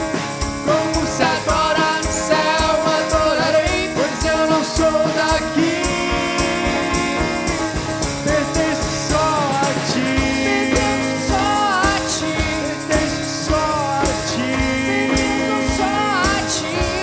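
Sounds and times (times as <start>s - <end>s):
acoustic guitar: 0.0s - 17.0s
drums: 0.0s - 17.0s
sliding melody line: 0.0s - 17.0s.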